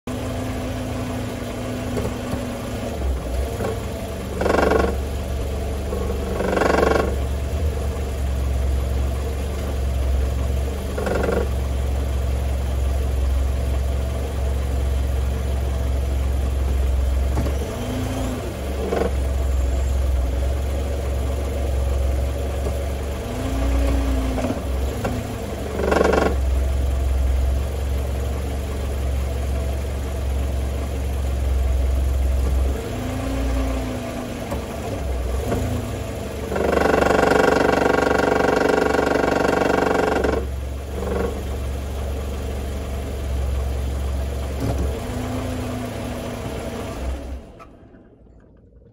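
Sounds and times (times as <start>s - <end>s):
car engine idling: 0.1s - 48.9s.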